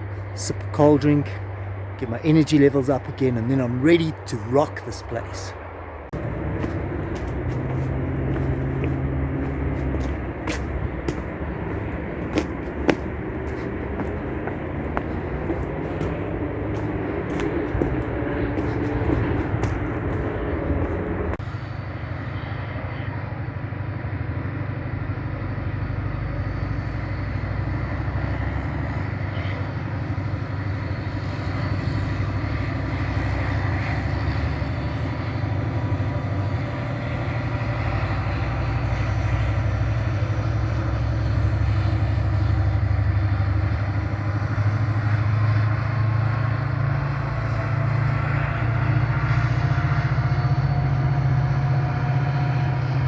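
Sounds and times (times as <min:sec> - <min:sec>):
distant road traffic rumble: 0:00.0 - 0:53.0.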